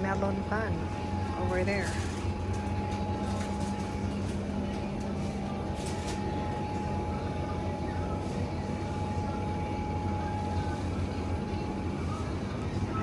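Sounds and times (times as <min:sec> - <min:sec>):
store background hum: 0:00.0 - 0:13.0.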